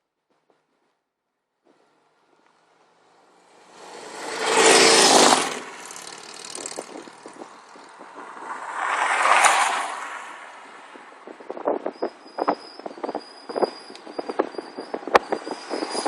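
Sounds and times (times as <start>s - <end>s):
vehicles passing: 1.7s - 16.0s.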